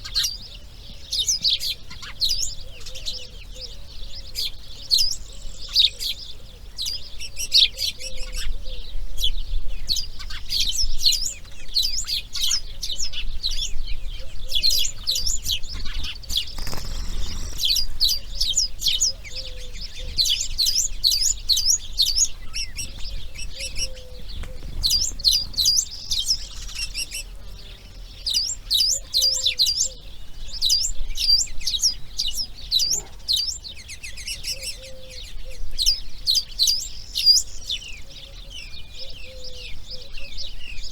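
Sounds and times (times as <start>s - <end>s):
birds chirping and singing: 0.0s - 40.9s
faint low repeated bird call: 0.0s - 40.9s.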